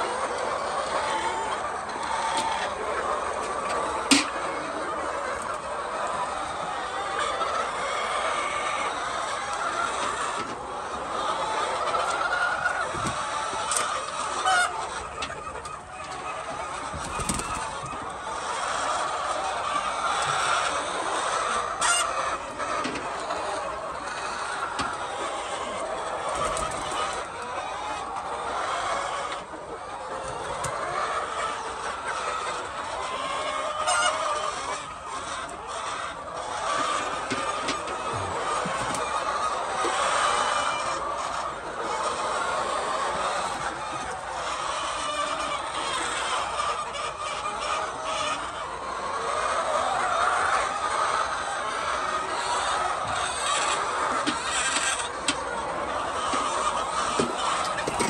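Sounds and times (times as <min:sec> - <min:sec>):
hens clucking and calling: 0:00.0 - 0:58.0.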